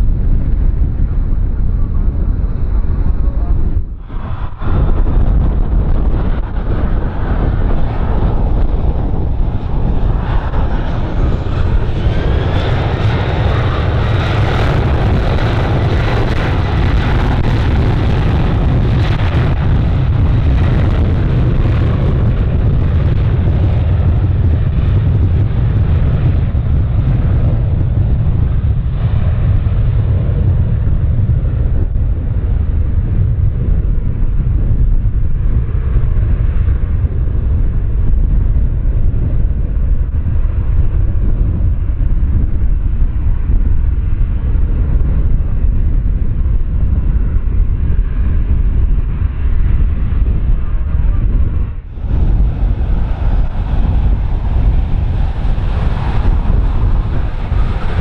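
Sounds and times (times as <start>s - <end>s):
airliner engine noise: 0.0s - 58.0s
wind buffeting microphone: 0.0s - 58.0s.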